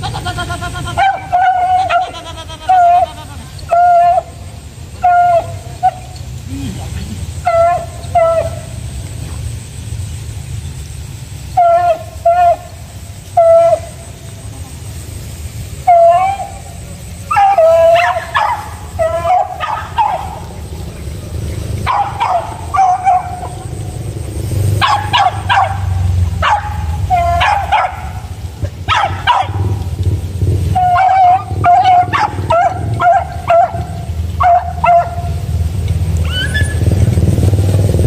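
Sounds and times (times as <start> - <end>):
dogs baying and yelping: 0.0 - 9.2, 11.5 - 14.8, 15.6 - 30.0, 30.6 - 37.2.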